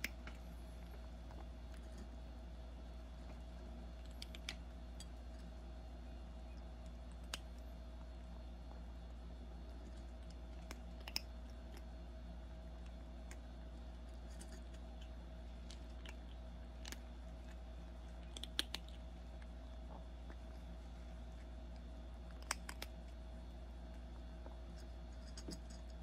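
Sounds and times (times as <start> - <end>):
kitten crunching dry kibble: 0.0 - 26.0
steady low hum: 0.0 - 26.0.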